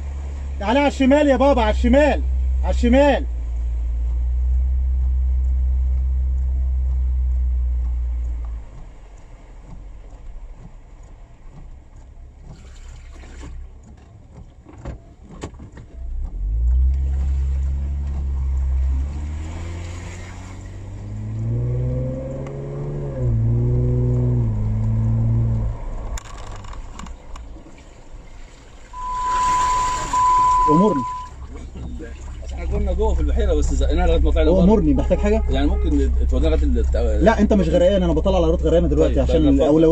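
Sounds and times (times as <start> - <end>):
engine rumbling and revving: 0.0 - 39.9.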